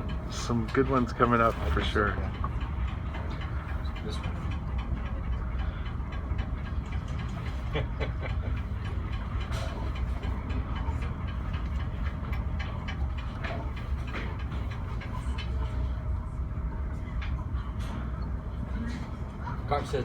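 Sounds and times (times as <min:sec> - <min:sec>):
ferry running noise: 0:00.0 - 0:20.0.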